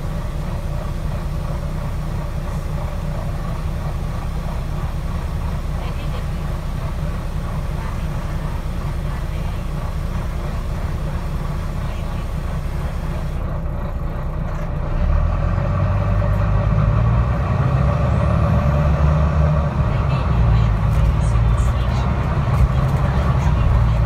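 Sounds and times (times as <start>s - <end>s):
bus engine: 0.0s - 24.0s.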